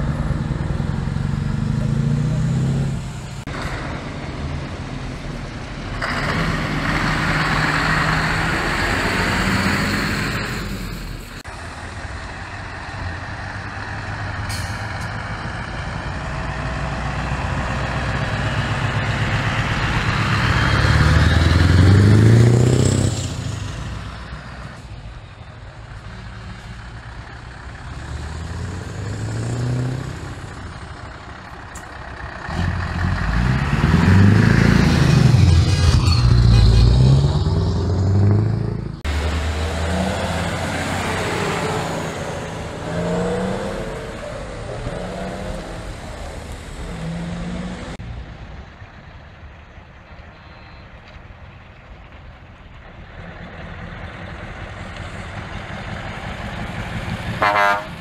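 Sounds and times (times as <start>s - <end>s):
truck engines revving past: 0.0s - 58.0s.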